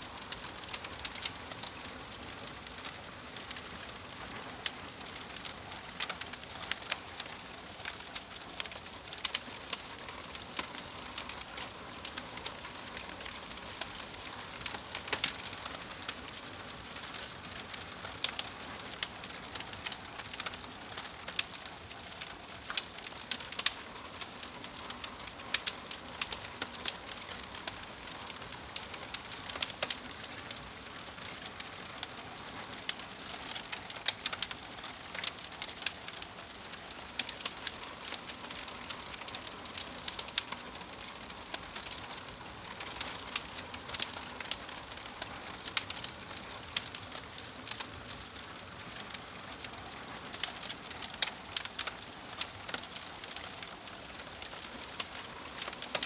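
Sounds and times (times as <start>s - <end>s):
fire crackling and popping: 0.0s - 56.0s
fire soft hiss: 0.0s - 56.0s.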